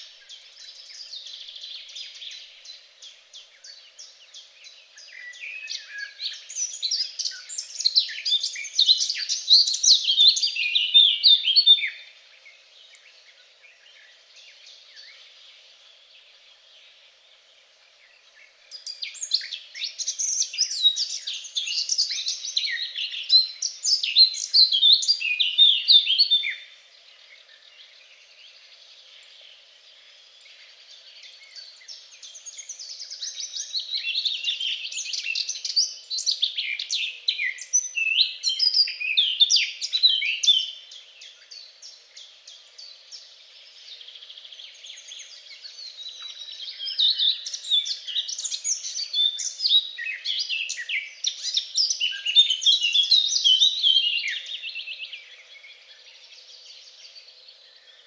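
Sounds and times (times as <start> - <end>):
faint steady hiss: 0.0 - 58.0
songbird twittering: 0.0 - 58.0.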